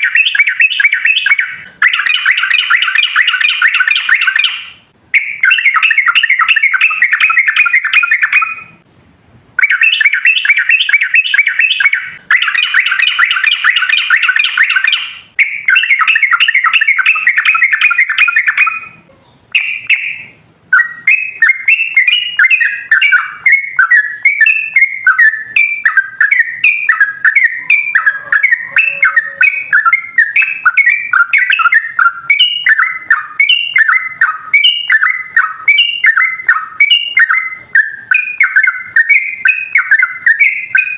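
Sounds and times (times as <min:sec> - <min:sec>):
bird singing chattering trills: 0:00.0 - 0:08.8, 0:09.6 - 0:40.9.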